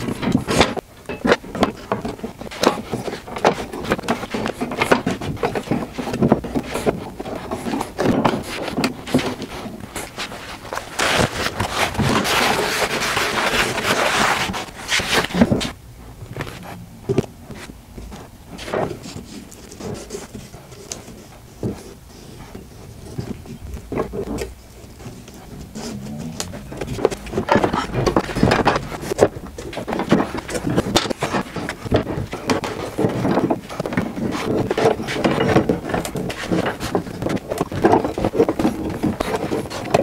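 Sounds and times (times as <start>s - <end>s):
wooden boards scraping and sliding: 0.0s - 40.0s.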